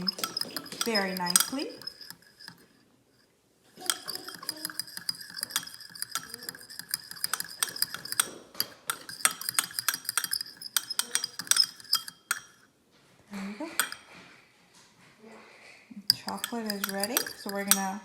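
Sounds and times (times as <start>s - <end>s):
utensil clinking against bowl: 0.0s - 2.8s, 3.8s - 12.7s, 13.6s - 14.3s, 16.0s - 18.0s.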